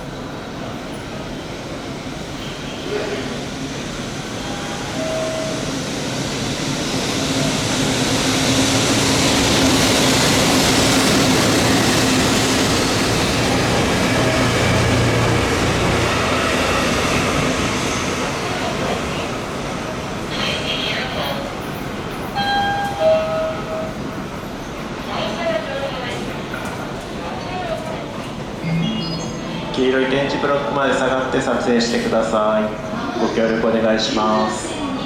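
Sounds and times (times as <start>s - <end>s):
train wheels rumbling on rail: 0.0s - 28.6s.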